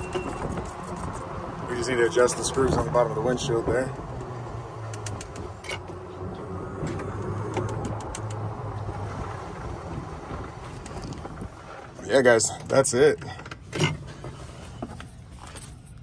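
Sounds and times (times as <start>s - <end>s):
windshield clicks and rattles: 0.0s - 6.2s, 6.8s - 16.0s
golf cart driving on pavement: 0.0s - 16.0s.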